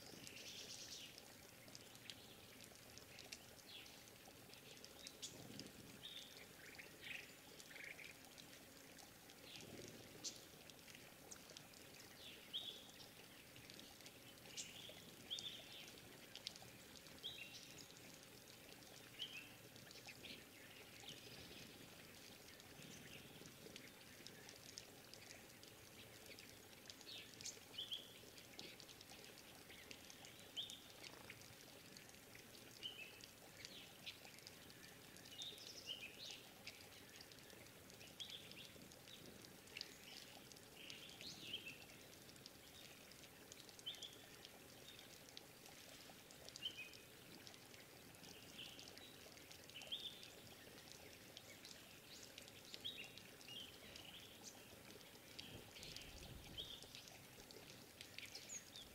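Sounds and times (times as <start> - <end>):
soft steady background hiss: 0.0 - 58.9.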